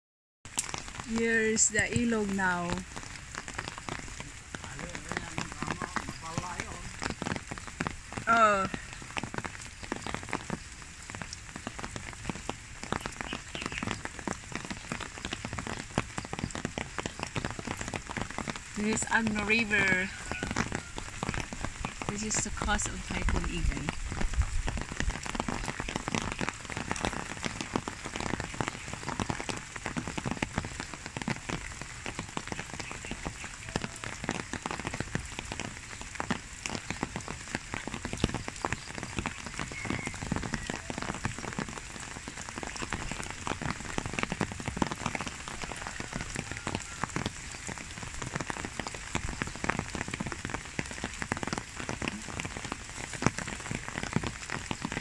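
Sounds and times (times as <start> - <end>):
raindrops ticking on surfaces: 0.4 - 55.0
heavy rain falling: 0.5 - 55.0.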